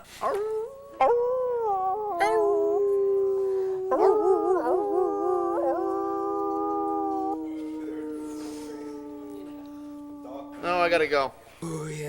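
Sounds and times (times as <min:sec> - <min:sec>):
dog howling: 0:00.0 - 0:11.2.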